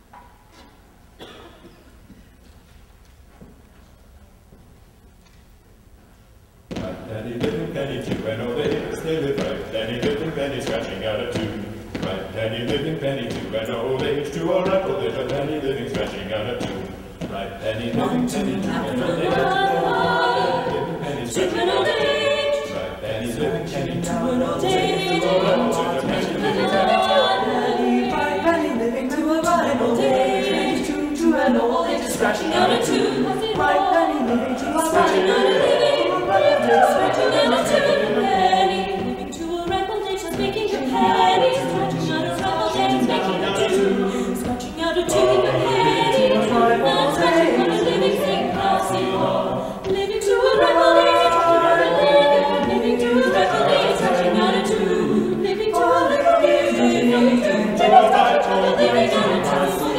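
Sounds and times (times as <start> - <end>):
a cappella choir singing: 1.2 - 1.8, 6.7 - 59.9.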